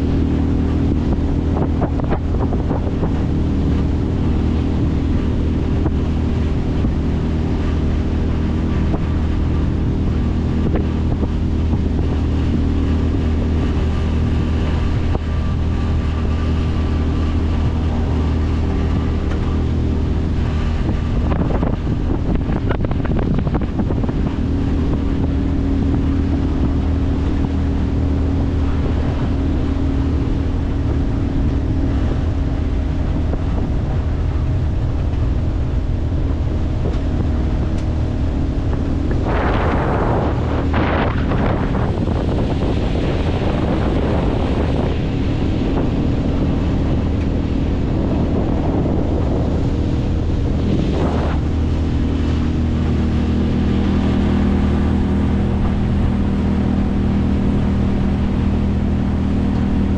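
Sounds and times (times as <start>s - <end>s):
outboard motor running: 0.0s - 59.9s
water rushing past: 0.0s - 59.9s
wind on microphone: 0.0s - 59.9s.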